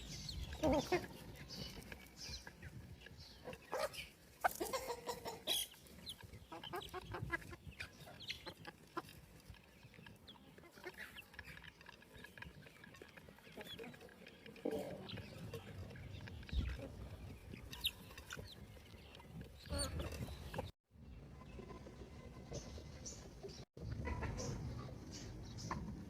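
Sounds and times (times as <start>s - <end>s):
chickens clucking: 0.0s - 20.7s, 21.3s - 26.0s.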